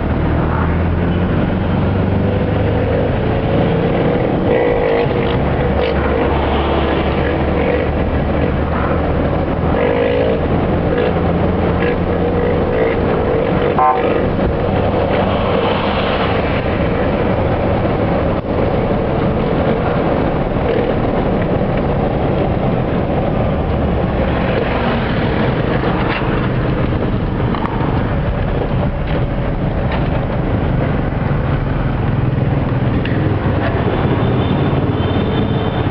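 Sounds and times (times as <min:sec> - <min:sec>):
car interior driving noise: 0:00.0 - 0:35.9.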